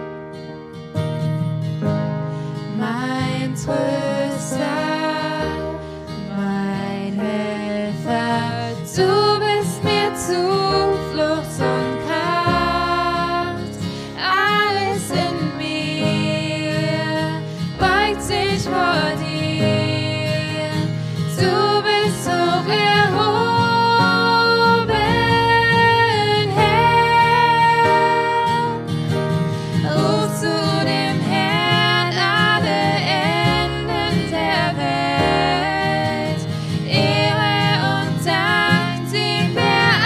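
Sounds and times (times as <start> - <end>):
strummed acoustic guitar: 0.0 - 40.0
person singing: 2.8 - 28.8, 29.8 - 40.0.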